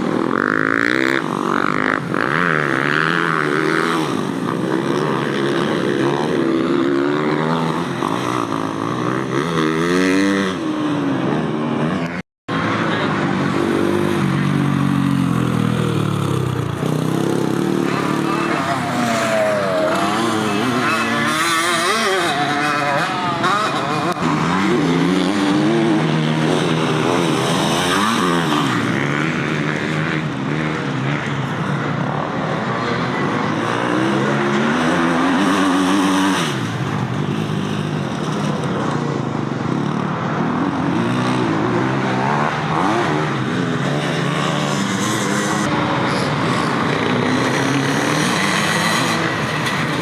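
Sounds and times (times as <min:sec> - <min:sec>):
motocross bike engines revving: 0:00.0 - 0:50.0.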